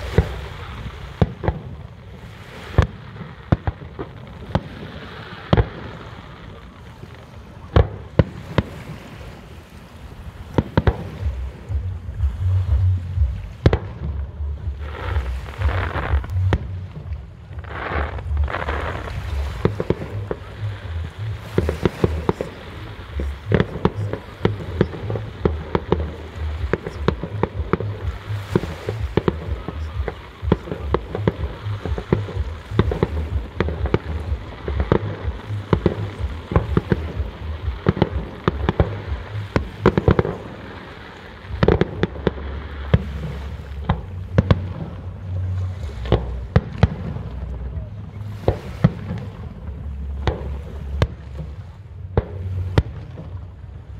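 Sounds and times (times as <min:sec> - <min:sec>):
fireworks bangs and crackles: 0:00.0 - 0:53.8.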